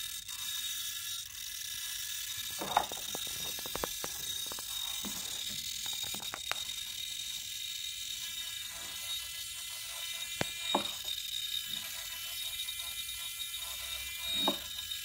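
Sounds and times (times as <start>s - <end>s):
servos whining: 0.0s - 15.0s.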